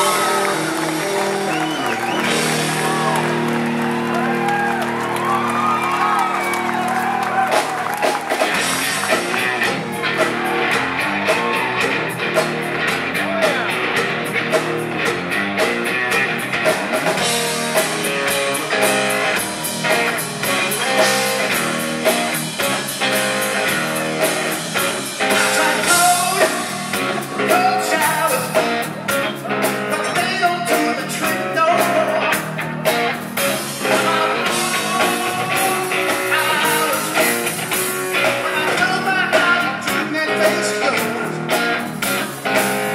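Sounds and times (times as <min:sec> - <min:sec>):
drum kit beat: 0:00.0 - 0:42.9
electric guitars: 0:00.0 - 0:42.9.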